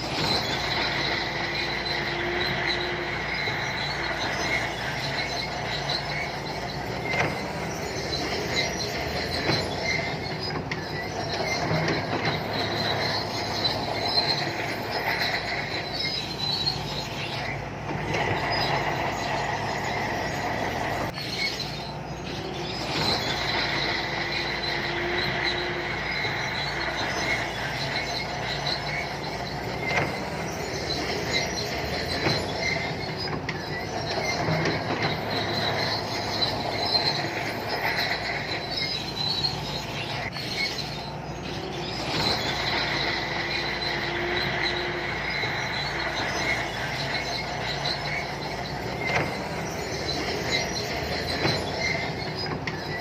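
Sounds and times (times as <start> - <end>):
diesel engine running: 0.0 - 53.0
steel tracks squealing and clanking: 0.0 - 53.0.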